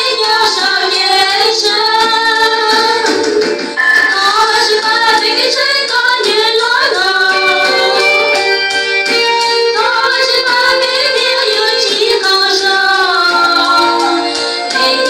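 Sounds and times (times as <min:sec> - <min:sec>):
women singing into microphones: 0:00.0 - 0:15.0
instrumental accompaniment: 0:01.8 - 0:15.0.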